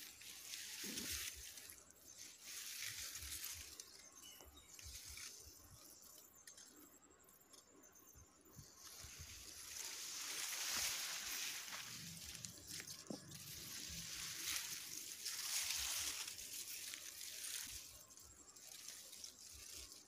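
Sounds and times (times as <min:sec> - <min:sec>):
rustling of rice plants: 0:00.0 - 0:06.2, 0:08.5 - 0:20.0.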